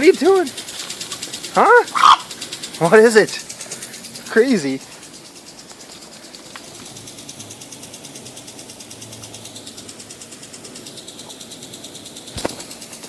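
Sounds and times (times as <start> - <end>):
lawn sprinkler ticking: 0.0 - 13.0.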